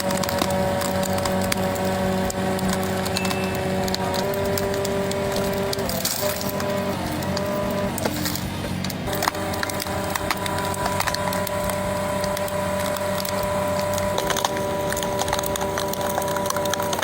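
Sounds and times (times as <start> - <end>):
steady machine hum: 0.0 - 17.0
wood cracking and splintering: 0.0 - 17.0.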